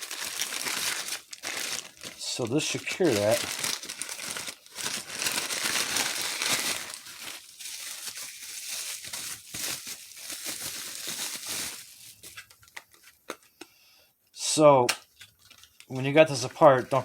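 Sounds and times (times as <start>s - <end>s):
plastic packaging crinkling: 0.0s - 13.2s, 15.0s - 17.0s.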